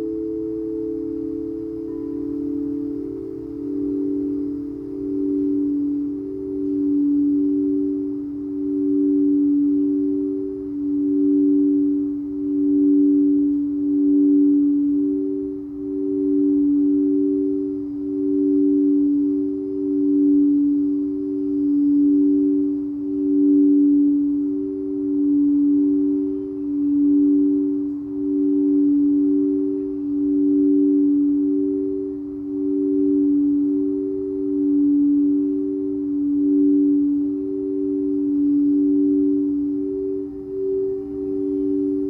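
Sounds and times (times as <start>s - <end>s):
singing bowls ringing: 0.0s - 42.0s.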